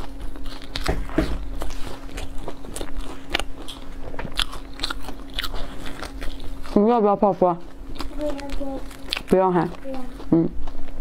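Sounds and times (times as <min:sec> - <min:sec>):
crisp crust crunching: 0:00.0 - 0:06.8, 0:07.7 - 0:11.0
person chewing pastry: 0:00.0 - 0:07.0, 0:07.6 - 0:11.0.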